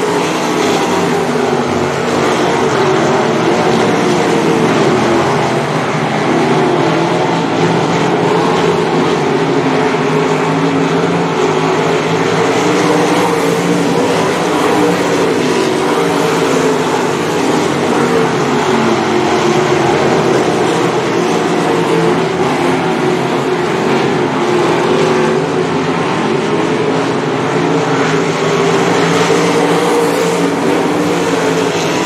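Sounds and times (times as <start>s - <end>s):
racing car engines: 0.0s - 32.0s.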